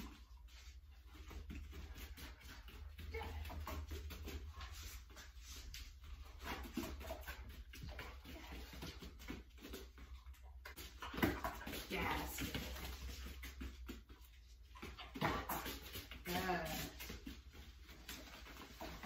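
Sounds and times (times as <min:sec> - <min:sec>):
dog paws on foam mats: 0:00.0 - 0:19.0.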